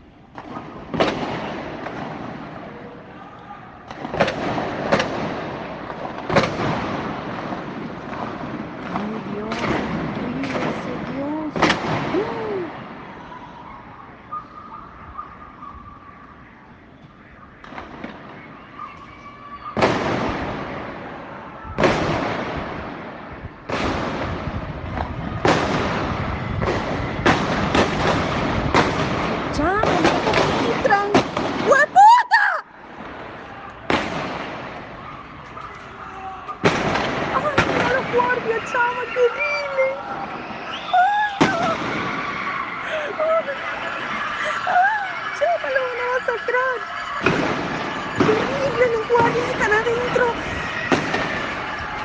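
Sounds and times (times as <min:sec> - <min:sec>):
loud detonations with echo: 0:00.0 - 0:14.4, 0:19.6 - 0:32.0, 0:32.7 - 0:35.5, 0:36.6 - 0:52.0.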